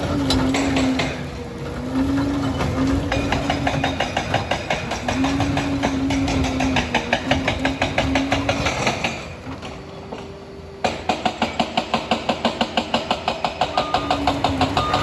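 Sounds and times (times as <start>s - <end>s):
bulldozer drive whining: 0.0s - 15.0s
steel tracks clattering: 0.0s - 15.0s.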